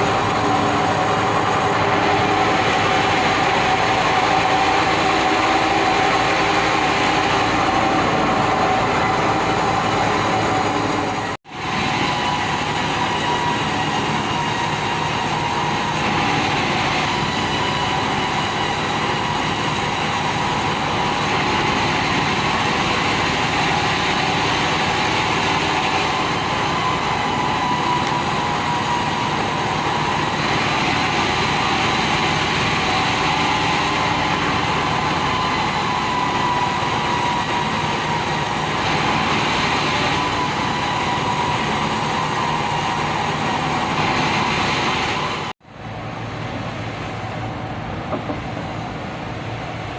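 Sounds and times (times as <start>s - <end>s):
band saw whining: 0.0s - 45.6s.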